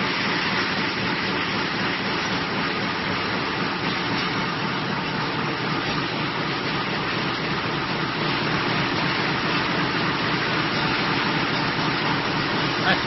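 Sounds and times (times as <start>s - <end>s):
metal slitting machine running: 0.0s - 13.0s.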